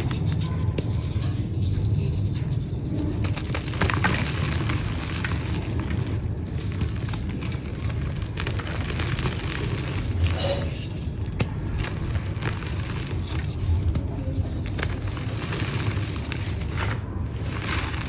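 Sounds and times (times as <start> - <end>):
dried mud crumbling: 0.0 - 18.0.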